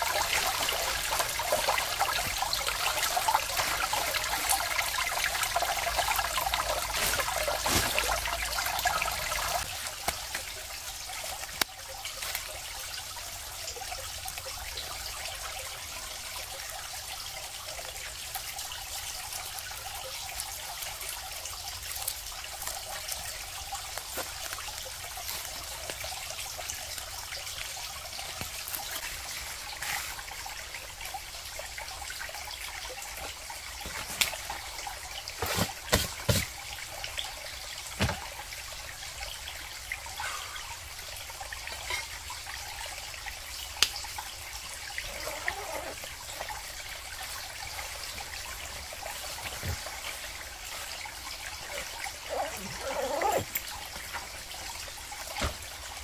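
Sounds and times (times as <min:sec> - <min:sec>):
water drips: 0:00.0 - 0:56.0
water trickling: 0:00.0 - 0:56.0.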